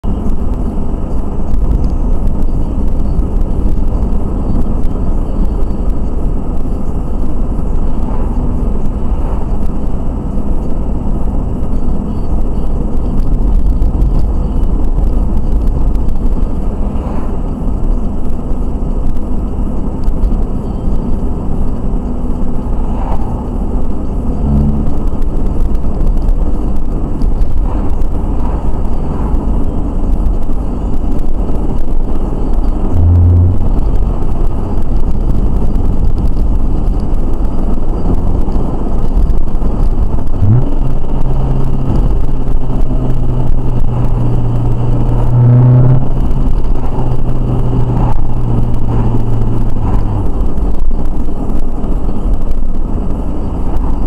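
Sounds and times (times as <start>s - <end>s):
car driving low rumble: 0.0s - 54.0s.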